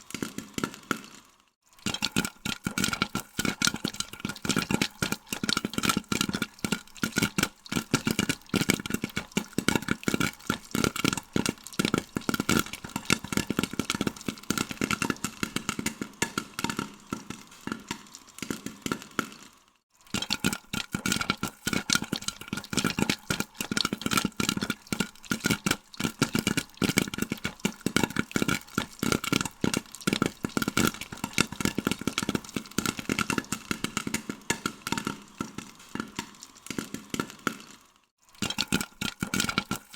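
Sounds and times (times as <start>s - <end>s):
popcorn popping: 0.0s - 39.9s.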